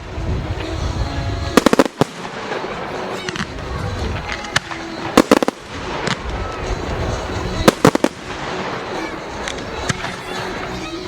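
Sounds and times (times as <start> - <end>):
fireworks sharp bangs: 0.0 - 10.5.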